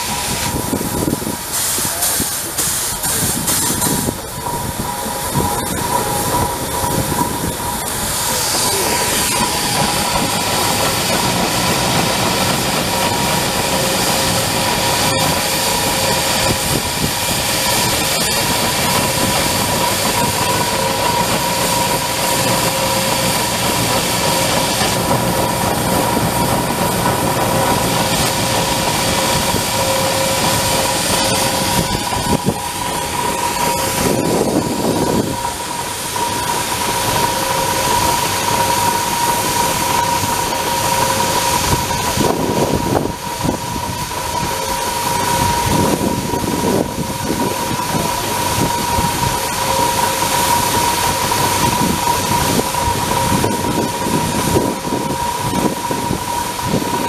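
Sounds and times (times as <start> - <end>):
steady whine: 0.0 - 57.0
steam engine rushing: 0.0 - 57.0.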